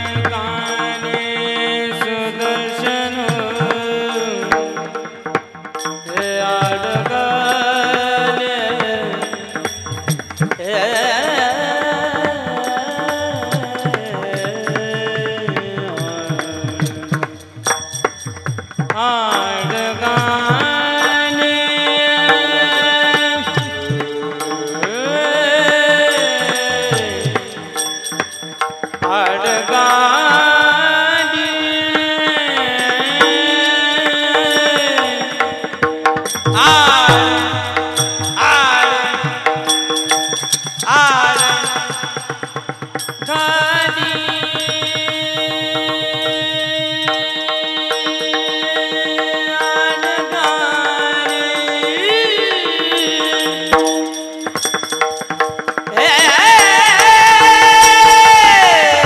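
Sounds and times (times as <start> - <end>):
man singing devotional melody: 0.0 - 59.0
sustained instrumental accompaniment: 0.0 - 59.0
hand drum beat: 2.6 - 59.0.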